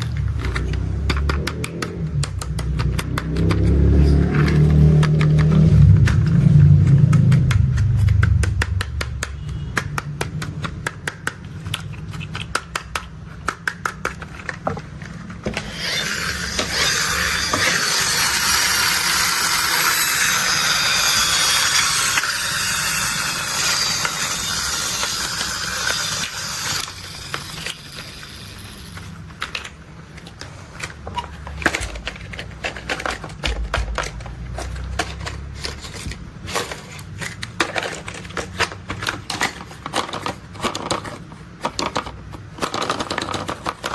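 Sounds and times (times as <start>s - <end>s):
plastic toy vehicles clicking: 0.0s - 43.9s.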